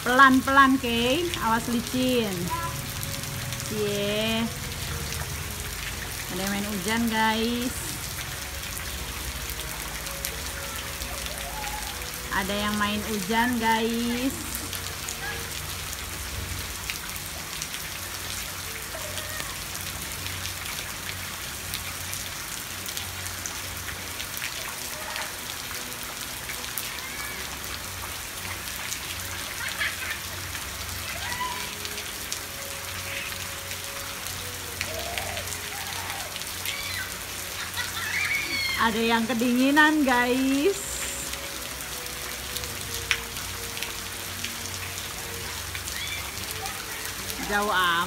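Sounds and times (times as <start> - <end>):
heavy rain on wet ground: 0.0 - 48.0.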